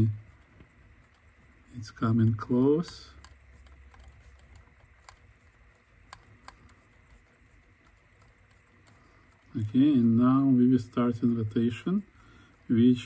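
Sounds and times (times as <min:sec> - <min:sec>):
faint plastic mechanism clicks: 0:00.0 - 0:12.9.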